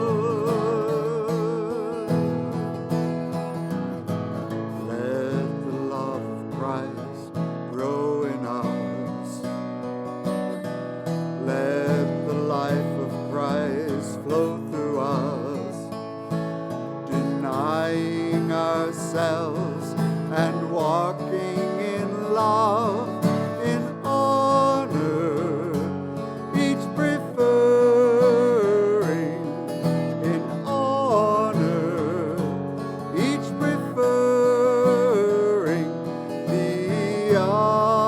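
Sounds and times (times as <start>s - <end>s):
person singing a hymn: 0.0s - 3.0s, 4.7s - 9.6s, 11.4s - 16.0s, 17.0s - 38.0s
acoustic guitar: 0.0s - 38.0s.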